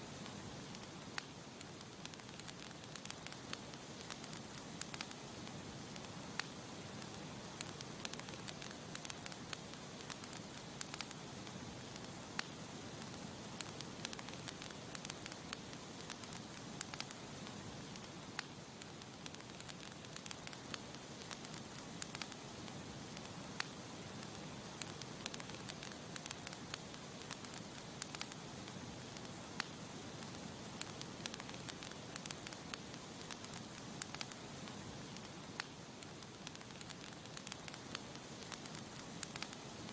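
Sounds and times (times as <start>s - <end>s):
campfire hissing: 0.0s - 39.9s
wood crackling and popping: 0.1s - 39.9s.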